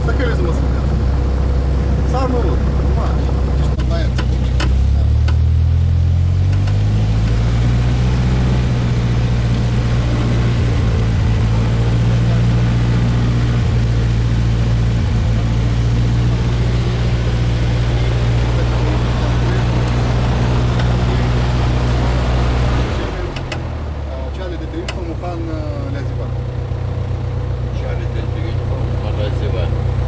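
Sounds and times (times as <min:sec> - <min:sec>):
propeller aircraft engine drone: 0:00.0 - 0:25.0.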